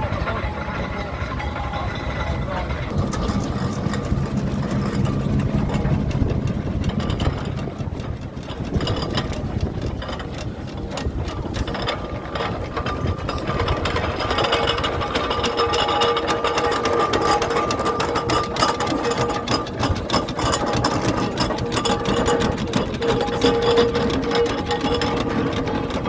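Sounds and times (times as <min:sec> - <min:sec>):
engine clattering: 0:00.0 - 0:26.0.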